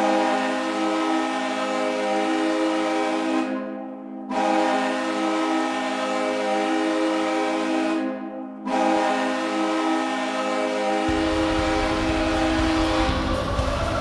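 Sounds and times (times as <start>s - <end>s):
hockey goal horn blasts: 0.0s - 13.9s.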